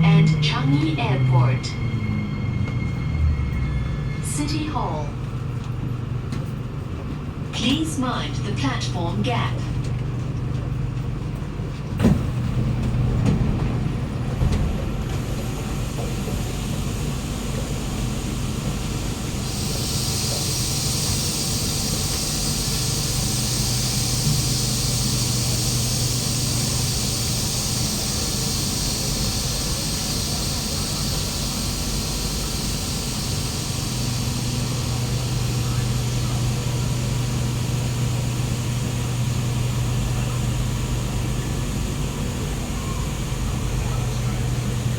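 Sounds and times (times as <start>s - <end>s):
train equipment humming: 0.0s - 44.9s.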